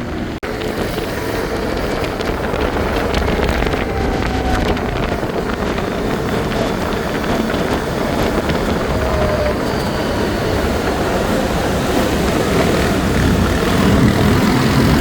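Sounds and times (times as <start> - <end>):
atv engine running: 0.0 - 15.0
wind buffeting microphone: 0.0 - 15.0.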